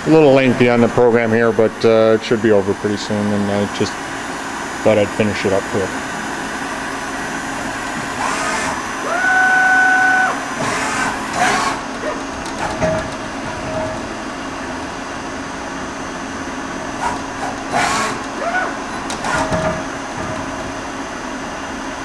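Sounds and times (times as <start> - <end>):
axis drive whines: 0.0 - 22.0
machine mechanical hum: 0.0 - 22.0.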